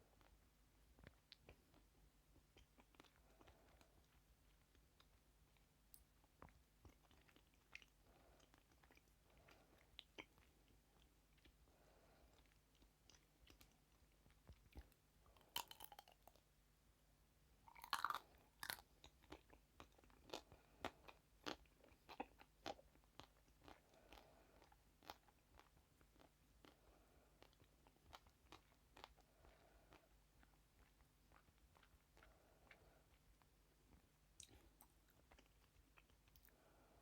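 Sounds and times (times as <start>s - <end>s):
crunchy chewing: 1.0s - 16.4s, 17.7s - 36.7s.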